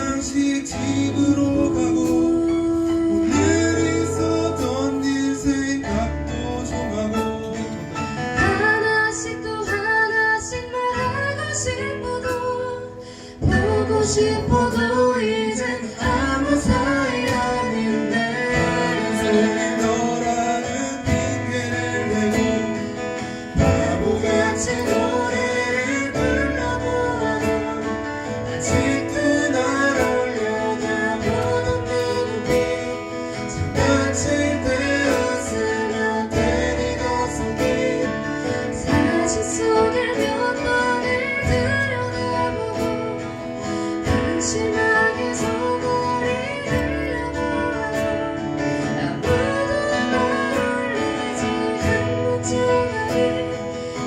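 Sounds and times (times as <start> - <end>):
live band playing a ballad: 0.0 - 54.0.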